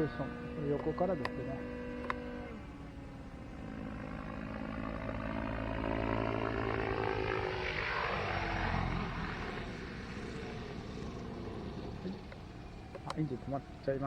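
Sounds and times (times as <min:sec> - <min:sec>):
model helicopter engine buzzing: 0:00.0 - 0:14.0
rotor whoosh: 0:00.0 - 0:14.0.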